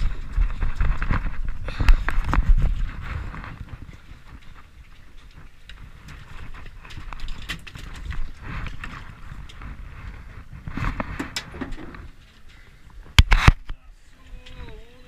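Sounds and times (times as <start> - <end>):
low rumble of wind and water: 0.0 - 15.0.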